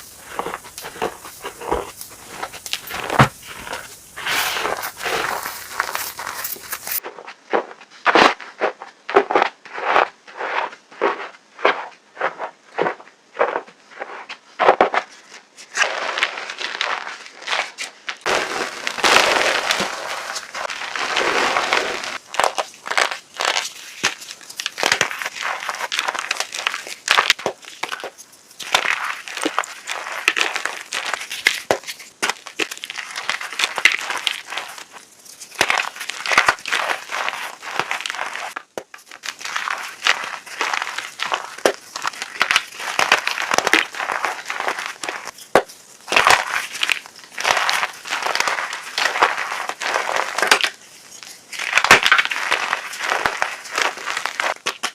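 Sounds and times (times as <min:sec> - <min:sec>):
chalk crunching and crumbling: 0:00.0 - 0:54.9.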